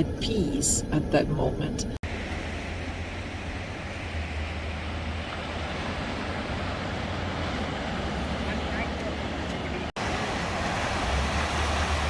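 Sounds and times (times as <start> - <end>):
vehicle driving road noise: 0.0 - 12.0.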